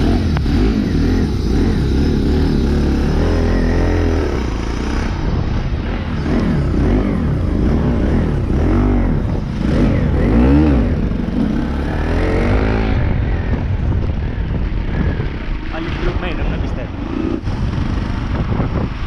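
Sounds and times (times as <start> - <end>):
motorcycle engine revving: 0.0 - 19.0
wind rumble on microphone: 0.0 - 19.0.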